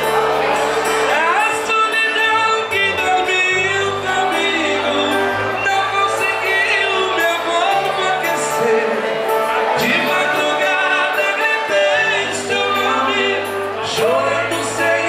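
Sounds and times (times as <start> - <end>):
held bass notes: 0.0 - 15.0
voice singing a melody: 1.0 - 15.0.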